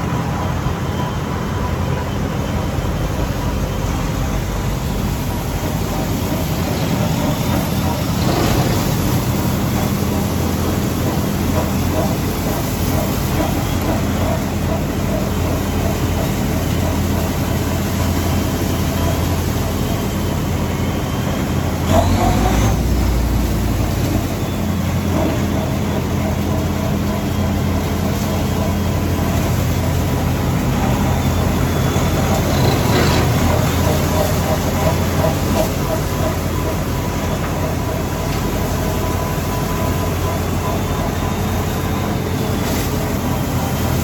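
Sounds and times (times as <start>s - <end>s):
heavy machinery engine running: 0.0s - 44.0s.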